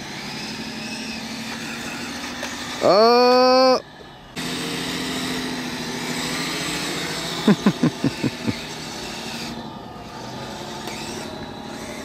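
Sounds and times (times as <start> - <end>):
toy motor and gear whine: 0.0 - 12.0
track noise on snow: 0.0 - 12.0.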